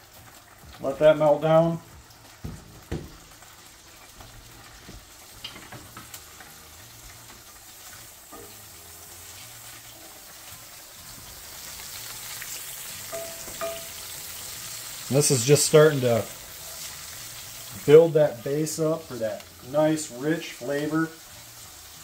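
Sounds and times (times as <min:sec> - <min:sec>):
butter sizzling in a skillet: 0:00.0 - 0:22.0.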